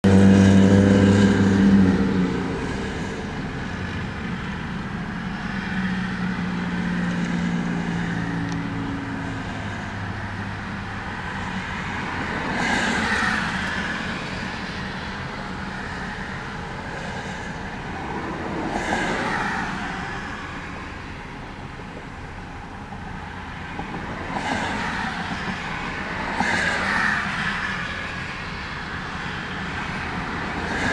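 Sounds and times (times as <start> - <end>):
vehicles passing: 0.0 - 30.9.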